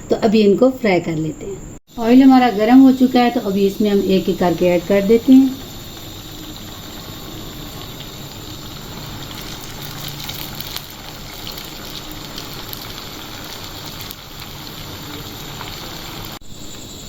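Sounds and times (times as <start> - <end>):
food sizzling in hot oil: 1.8 - 17.0.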